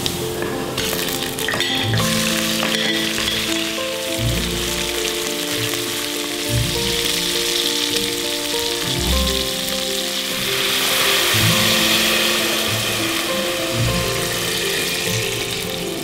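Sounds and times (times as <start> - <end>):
background music with bass notes: 0.0 - 16.0
meat sizzling in a pot: 0.0 - 16.0.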